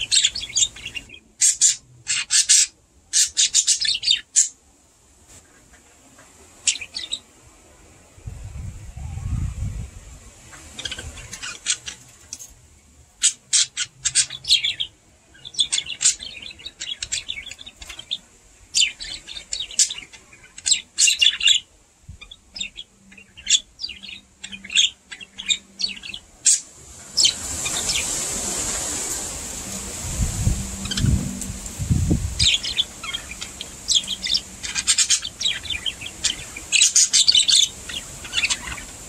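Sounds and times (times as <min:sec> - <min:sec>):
steady rushing hiss: 0:00.0 - 0:23.0, 0:23.7 - 0:39.0.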